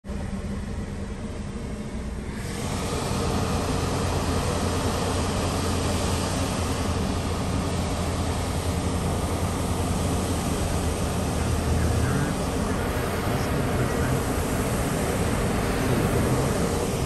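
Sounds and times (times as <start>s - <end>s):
car engine idling: 0.1s - 17.0s.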